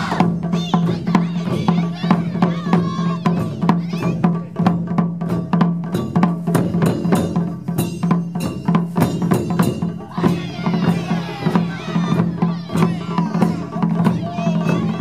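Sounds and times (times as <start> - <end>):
ensemble drumming: 0.0 - 15.0.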